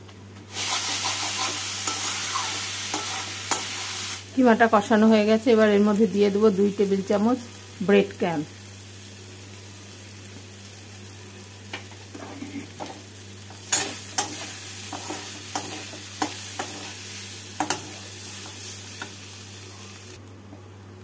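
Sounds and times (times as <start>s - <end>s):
faint sizzle: 0.0s - 21.0s.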